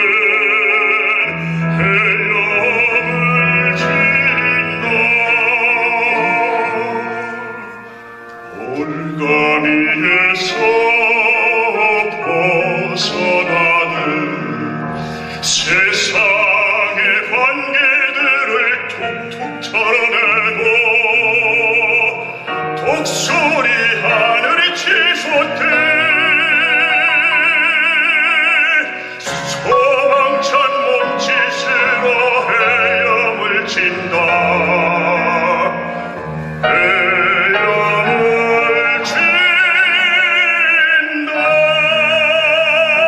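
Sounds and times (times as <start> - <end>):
man singing operatically: 0.0 - 7.8, 8.4 - 43.0.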